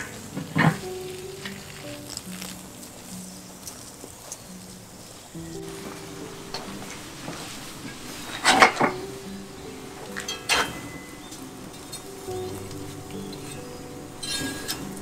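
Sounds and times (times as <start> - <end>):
soft background music: 0.0 - 15.0
wire grill basket clanking: 0.0 - 15.0.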